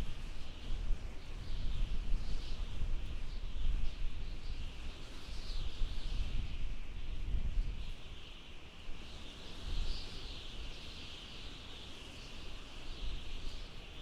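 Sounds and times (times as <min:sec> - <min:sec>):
howling wind: 0:00.0 - 0:14.0.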